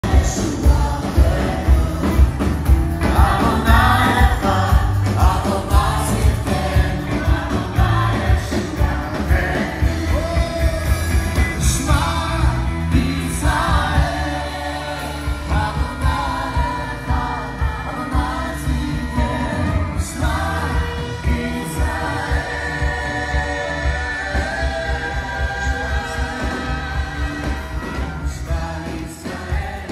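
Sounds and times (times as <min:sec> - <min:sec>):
worship band with singing: 0:00.0 - 0:29.9.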